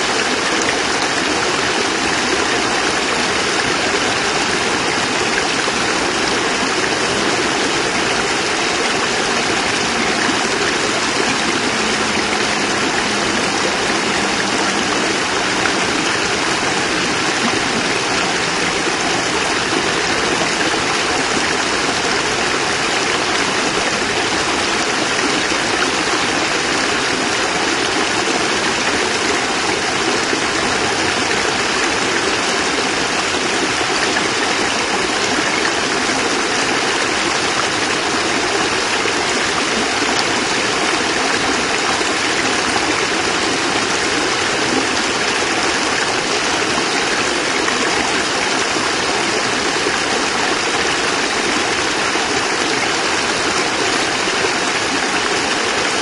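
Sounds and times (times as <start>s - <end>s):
water pouring over rocks: 0.0s - 56.0s.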